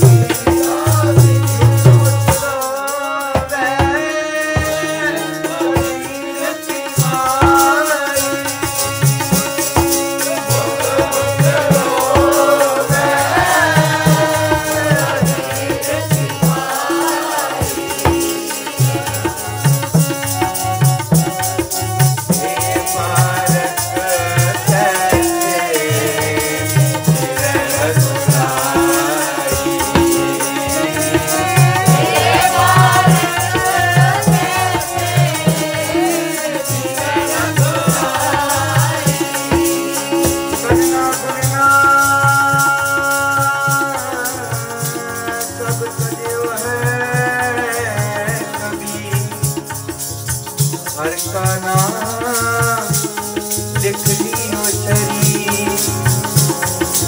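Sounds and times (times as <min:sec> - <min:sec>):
hand drum rhythm: 0:00.0 - 0:57.0
jingling percussion: 0:00.0 - 0:57.0.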